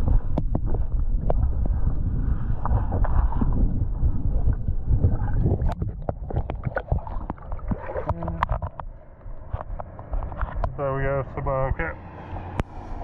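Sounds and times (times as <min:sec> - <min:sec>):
water sloshing and gurgling: 0:00.0 - 0:13.0.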